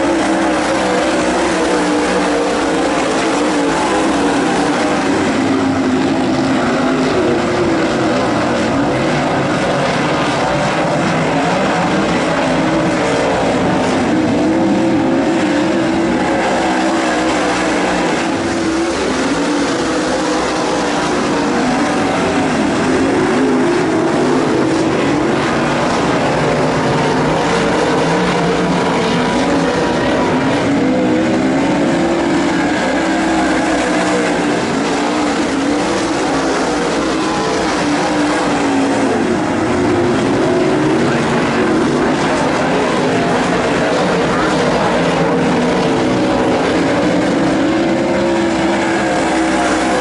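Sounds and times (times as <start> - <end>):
race car engines droning: 0.0 - 50.0.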